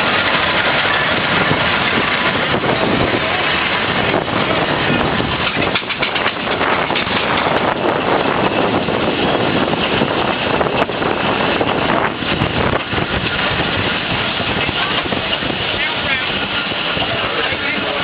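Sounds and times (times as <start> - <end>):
steam engine running: 0.0 - 18.0
wind noise on microphone: 0.0 - 18.0.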